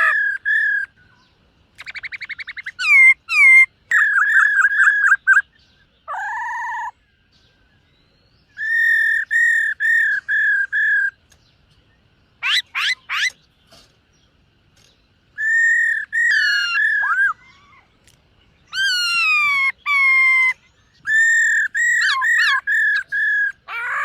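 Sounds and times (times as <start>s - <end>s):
bird singing whistled notes: 0.0s - 17.7s, 18.4s - 24.0s.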